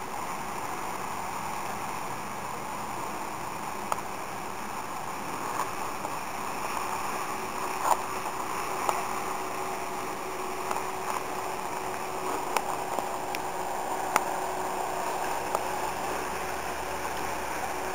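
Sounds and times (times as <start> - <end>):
distant motorboat drone: 0.0 - 17.9.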